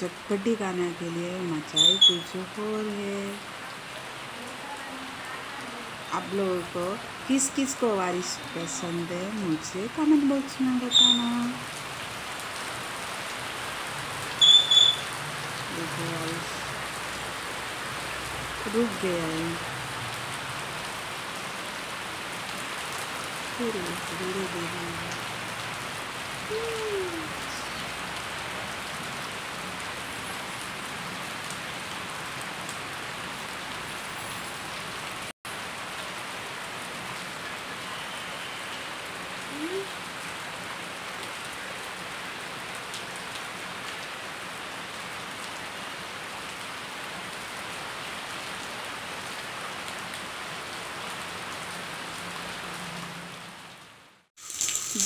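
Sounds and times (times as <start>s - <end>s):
rain falling on trees: 0.0s - 55.0s.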